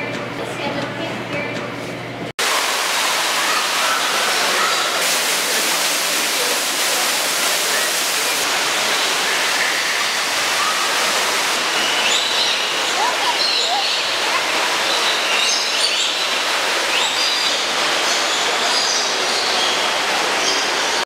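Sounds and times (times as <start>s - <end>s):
waterfall rushing: 2.4s - 21.0s.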